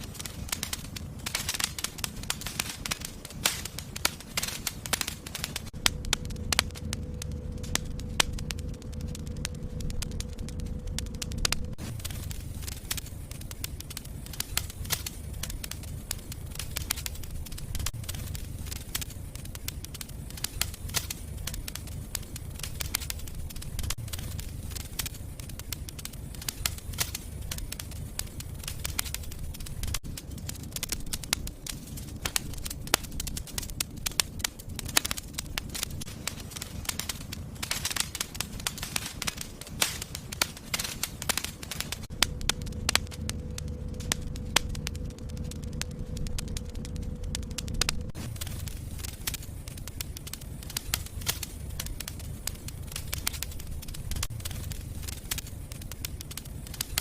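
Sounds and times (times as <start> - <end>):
low rumble of flame: 0.0 - 57.0
wood fire crackling and popping: 0.0 - 57.0.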